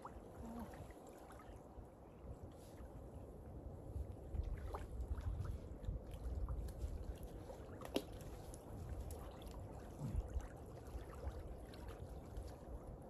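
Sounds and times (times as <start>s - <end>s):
small waves lapping: 0.0s - 13.0s
wind rumble on microphone: 0.0s - 13.0s.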